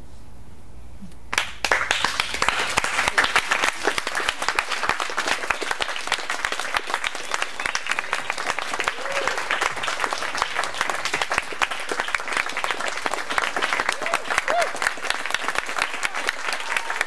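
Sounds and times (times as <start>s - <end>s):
audience applause: 1.3s - 17.0s.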